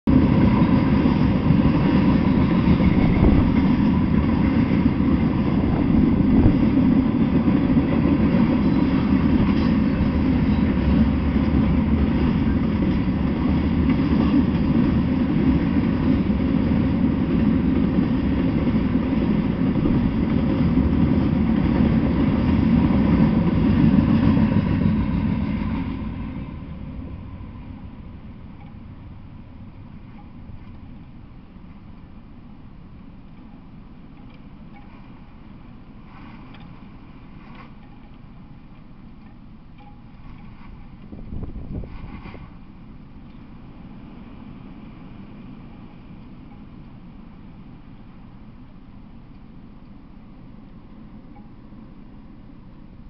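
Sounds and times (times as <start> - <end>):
train wheels rumbling on rails: 0.1 - 32.1, 34.1 - 48.6.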